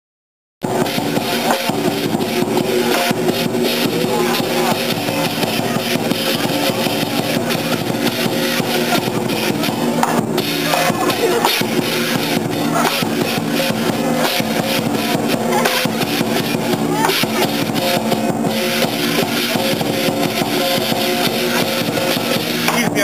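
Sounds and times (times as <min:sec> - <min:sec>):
clashing cymbals: 0:00.6 - 0:23.0
drum beaten hard: 0:00.6 - 0:23.0.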